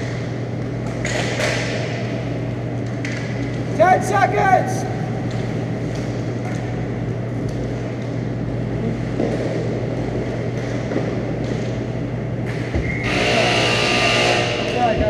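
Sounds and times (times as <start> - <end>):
indoor rink background hum: 0.0 - 15.0.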